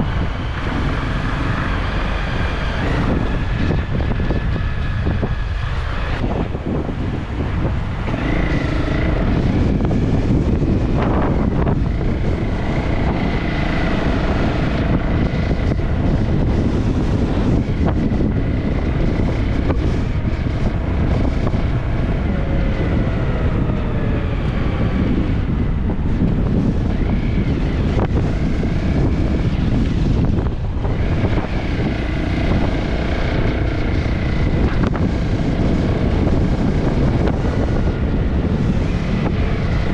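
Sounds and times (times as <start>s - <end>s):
moving vehicle noise: 0.0s - 39.9s
wind buffeting microphone: 0.0s - 39.9s.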